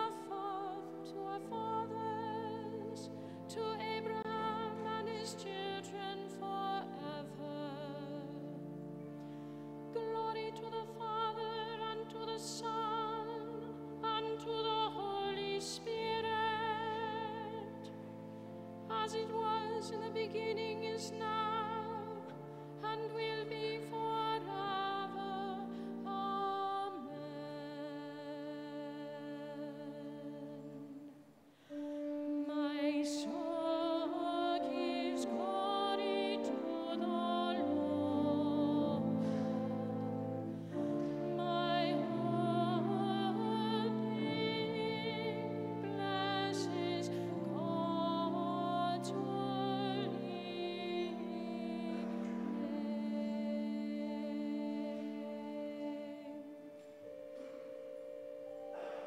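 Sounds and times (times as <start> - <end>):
long held accompanying chords: 0.0 - 59.0.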